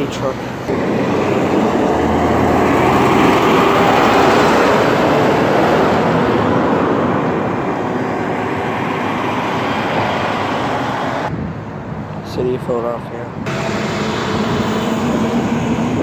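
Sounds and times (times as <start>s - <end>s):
garbage truck passing: 0.4s - 11.3s, 13.5s - 16.0s.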